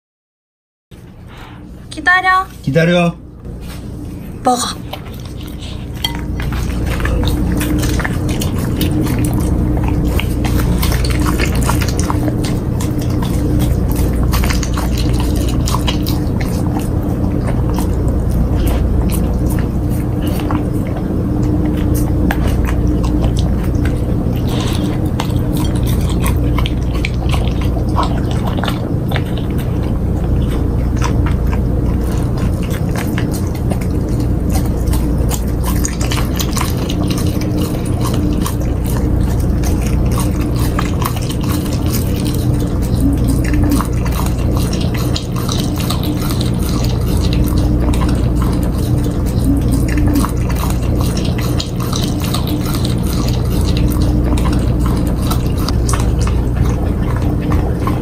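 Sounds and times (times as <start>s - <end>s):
low hum: 1.0s - 58.0s
dog chewing meat: 2.7s - 58.0s.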